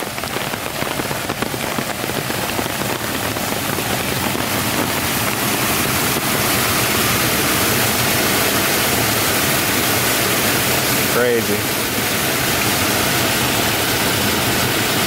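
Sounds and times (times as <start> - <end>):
water rushing into storm drain: 0.0 - 15.0.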